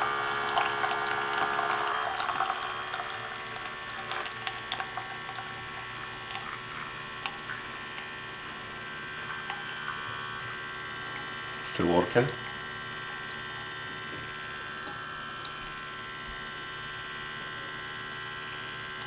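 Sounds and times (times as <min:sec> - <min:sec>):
espresso machine pump humming: 0:00.0 - 0:19.0.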